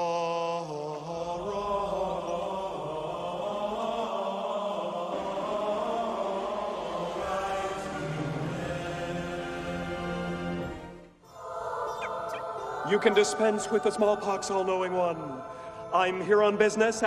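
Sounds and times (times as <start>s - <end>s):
low voices chanting: 0.0s - 17.0s.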